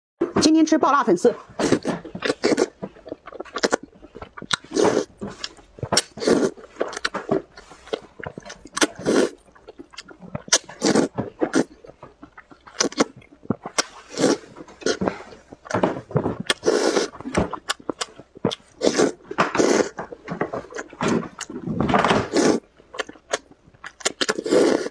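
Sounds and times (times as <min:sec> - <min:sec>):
person slurping noodles: 0:01.4 - 0:22.7, 0:24.1 - 0:24.9.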